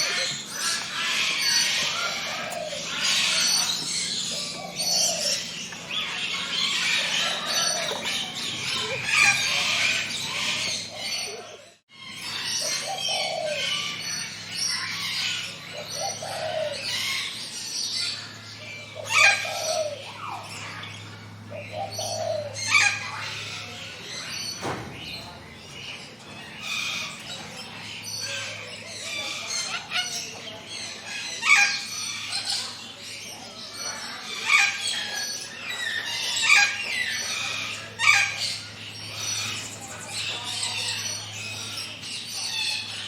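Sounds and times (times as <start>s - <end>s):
forest birds chirping and singing: 0.0s - 43.0s.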